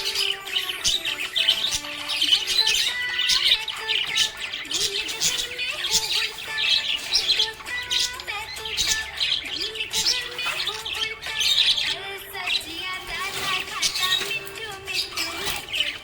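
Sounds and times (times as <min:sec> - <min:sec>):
background music: 0:00.0 - 0:16.0
budgerigar chirping and squawking: 0:00.0 - 0:16.0.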